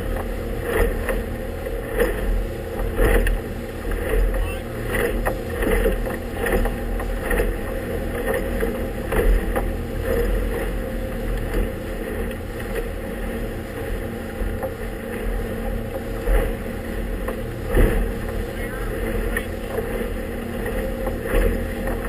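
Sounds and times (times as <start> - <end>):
hull slapping through water: 0.0 - 22.0
motorboat engine running: 0.0 - 22.0.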